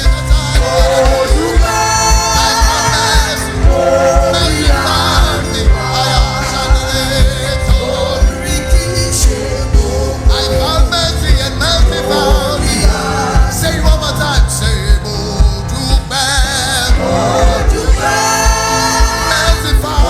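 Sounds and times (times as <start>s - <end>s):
band with bass drum beat: 0.0s - 20.0s
person singing with vibrato: 0.0s - 20.0s.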